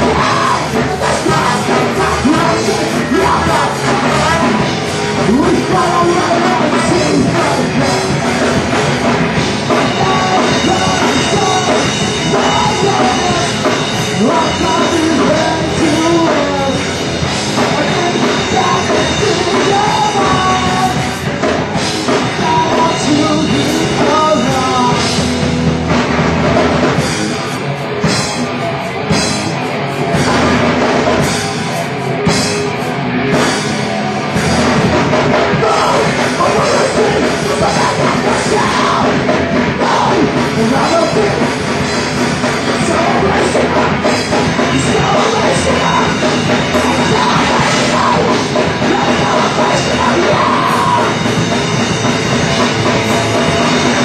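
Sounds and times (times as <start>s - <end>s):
person singing: 0.0s - 25.9s, 33.3s - 54.0s
drum kit: 0.0s - 54.0s
electric guitars: 0.0s - 54.0s.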